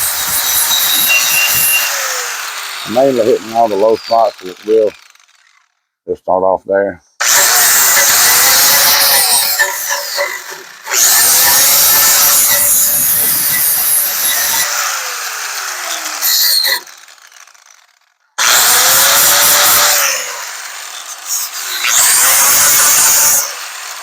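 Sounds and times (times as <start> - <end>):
grinder grinding metal: 0.0 - 5.7, 7.2 - 24.0
grinder motor winding down: 0.0 - 5.7, 7.2 - 24.0.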